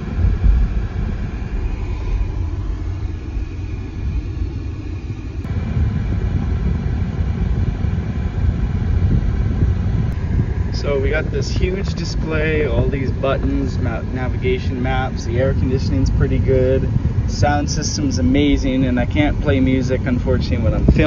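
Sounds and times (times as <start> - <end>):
road and tyre rumble: 0.0 - 21.0.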